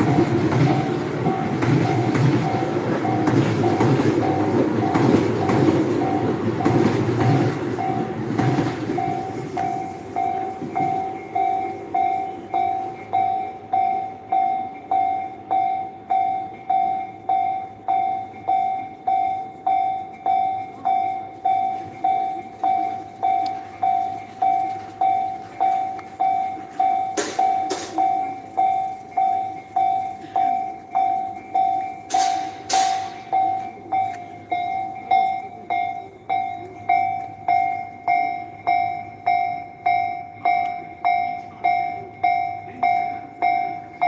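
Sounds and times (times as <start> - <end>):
crossing warning bell ringing: 0.0 - 44.0
train passing: 0.0 - 44.0.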